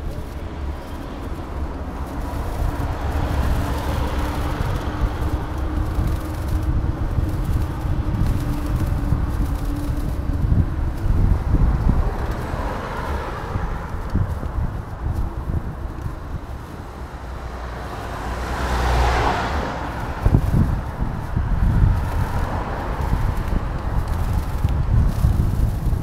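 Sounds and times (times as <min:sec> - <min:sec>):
city street traffic: 0:00.0 - 0:26.0
wind rumbling on microphone: 0:00.0 - 0:26.0.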